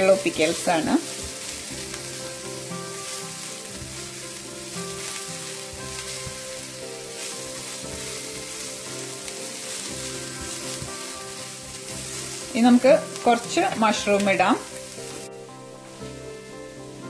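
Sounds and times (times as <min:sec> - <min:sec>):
background music: 0:00.0 - 0:17.0
spatula stirring in pan: 0:00.0 - 0:17.0
vegetables sizzling in frying pan: 0:00.0 - 0:17.0.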